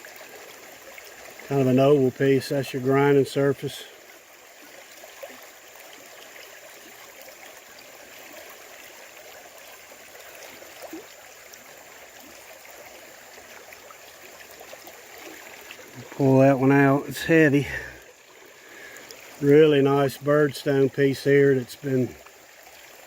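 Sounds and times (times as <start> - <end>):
creek flowing over rocks: 0.0 - 23.0.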